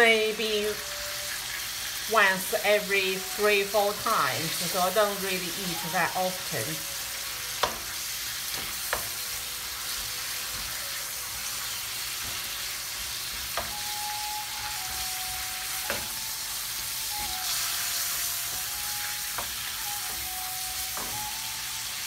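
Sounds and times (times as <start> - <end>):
bacon sizzling: 0.0 - 22.0.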